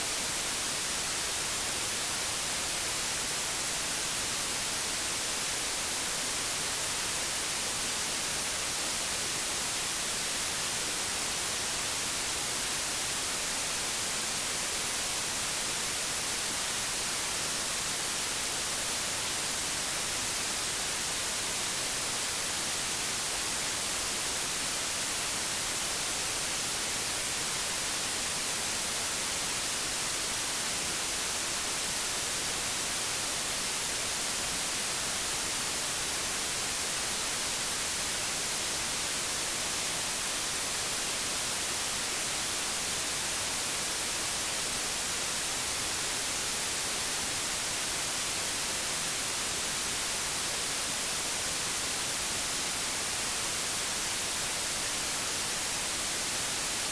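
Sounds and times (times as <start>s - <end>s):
television static hiss: 0.0s - 56.9s.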